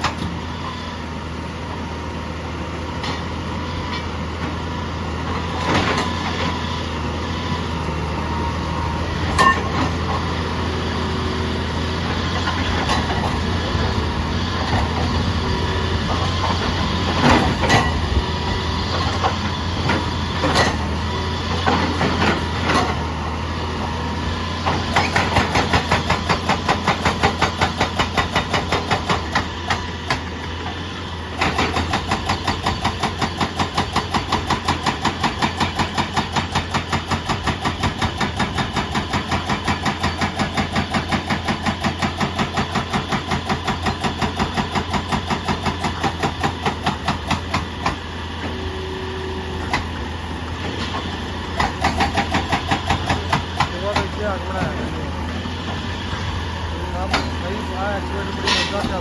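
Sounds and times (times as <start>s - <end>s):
diesel machinery droning: 0.0s - 59.0s.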